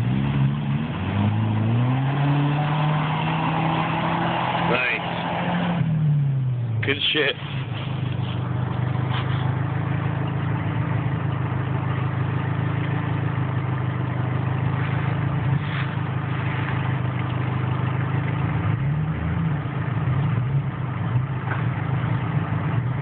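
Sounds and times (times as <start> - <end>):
vehicle engine idling: 3.3 - 23.0.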